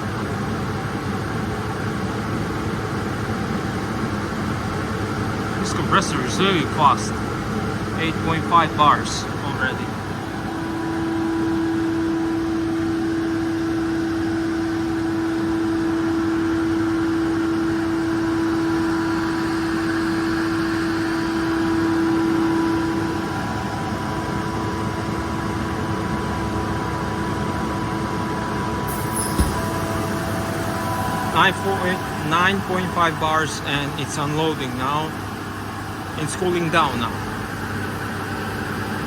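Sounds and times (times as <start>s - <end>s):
air compressor running: 1.4s - 39.0s
steady hum: 3.4s - 39.0s.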